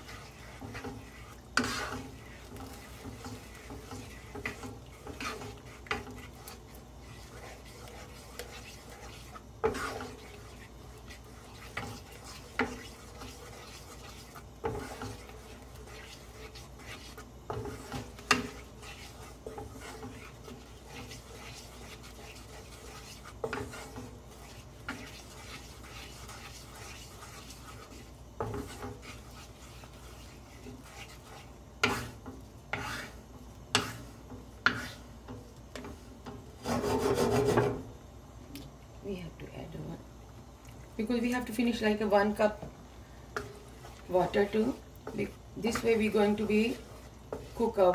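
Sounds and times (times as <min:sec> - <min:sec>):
spatula stirring sauce in pan: 0:00.0 - 0:38.0, 0:40.7 - 0:47.9.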